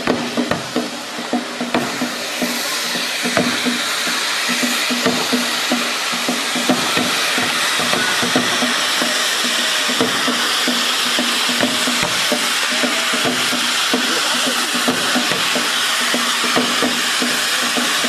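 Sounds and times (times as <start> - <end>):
firework fountain hissing: 0.0 - 18.0
low pulsing beat: 0.0 - 18.0.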